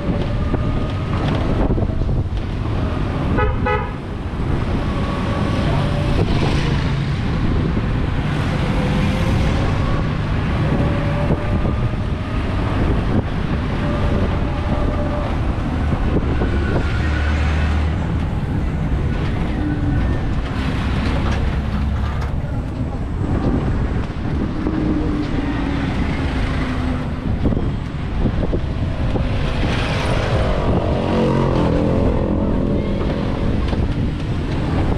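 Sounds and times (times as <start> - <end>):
road noise: 0.0 - 34.9
wind noise: 0.0 - 34.9.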